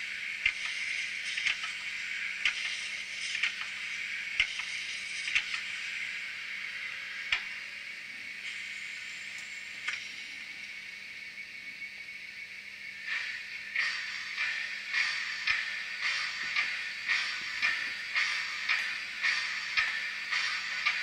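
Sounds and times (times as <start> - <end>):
model locomotive steam hiss: 0.0 - 21.0.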